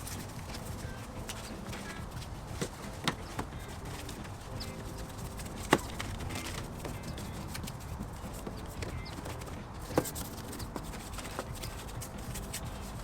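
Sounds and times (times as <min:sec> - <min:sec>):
brush scrubbing: 0:00.0 - 0:13.0
sharp knocks and taps: 0:00.0 - 0:13.0.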